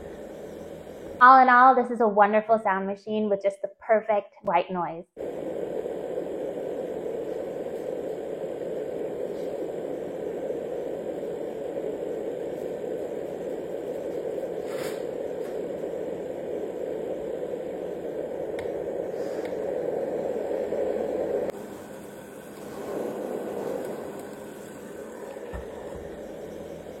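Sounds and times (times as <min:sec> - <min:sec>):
white noise machine fan: 0:00.0 - 0:01.7, 0:05.2 - 0:27.0.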